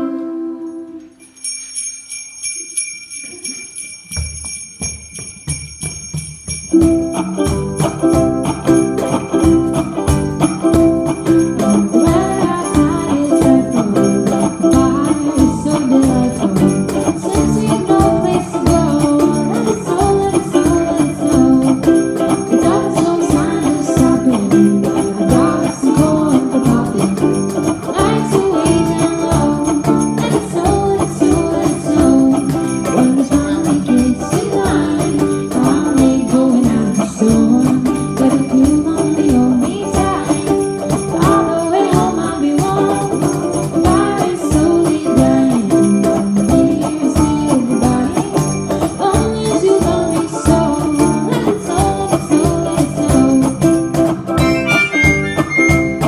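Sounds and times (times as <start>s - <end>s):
jingle bells shaking: 0.7s - 56.0s
cajon beat: 3.4s - 56.0s
strummed ukulele: 5.5s - 56.0s.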